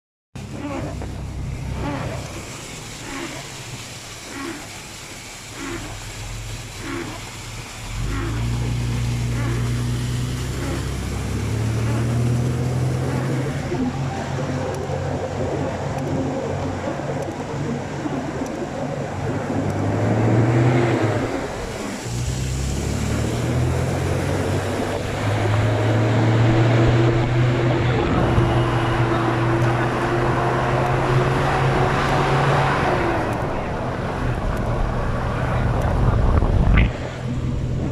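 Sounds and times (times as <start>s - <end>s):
rain hissing: 0.4s - 35.8s
rushing noise: 0.4s - 37.9s
vehicle engine hum: 0.4s - 37.9s.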